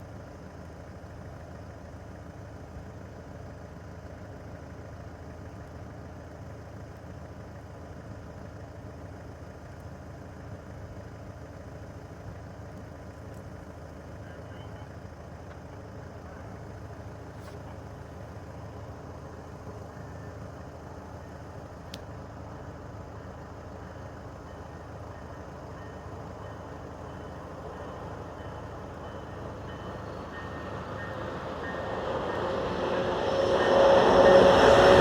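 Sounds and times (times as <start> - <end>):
train approaching rumble: 0.0 - 35.0.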